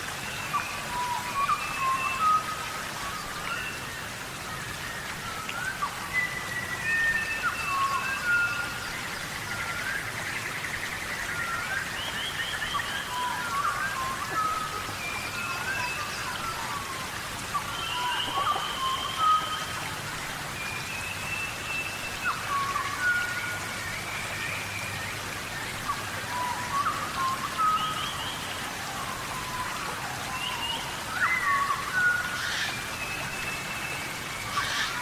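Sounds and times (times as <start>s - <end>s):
rain falling: 0.0s - 35.0s.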